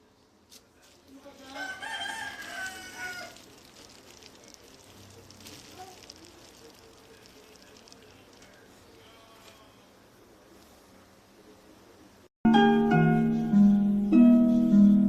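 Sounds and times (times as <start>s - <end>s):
faint background noise: 0.0s - 14.7s.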